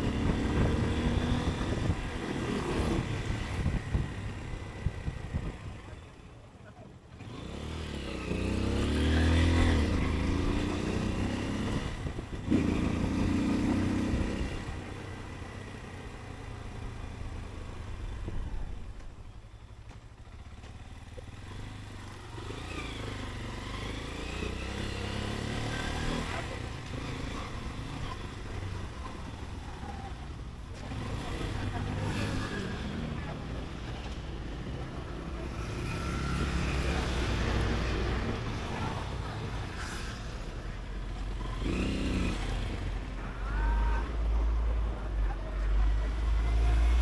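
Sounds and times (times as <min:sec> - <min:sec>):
motorcycle engine accelerating: 0:00.0 - 0:06.2, 0:07.1 - 0:19.4, 0:20.2 - 0:47.0.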